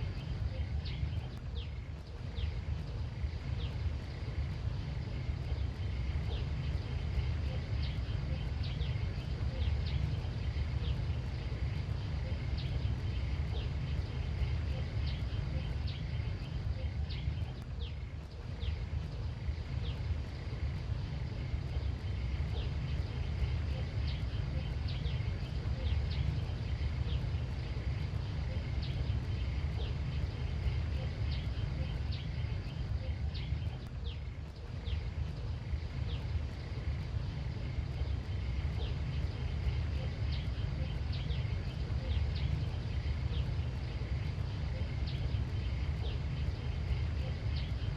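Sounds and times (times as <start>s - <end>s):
small birds chirping: 0.0s - 47.9s
steady low rumble: 0.0s - 47.9s.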